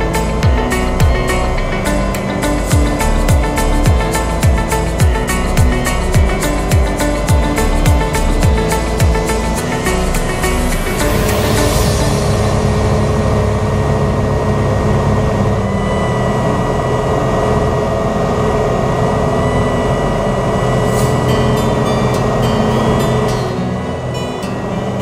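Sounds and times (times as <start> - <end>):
light aircraft engine and propeller: 0.0 - 25.0.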